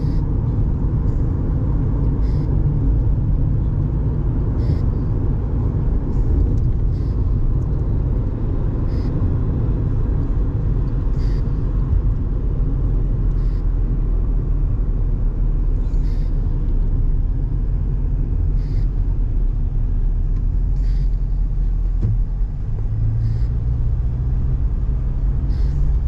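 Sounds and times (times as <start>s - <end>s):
car tyre and engine rumble: 0.0s - 26.0s.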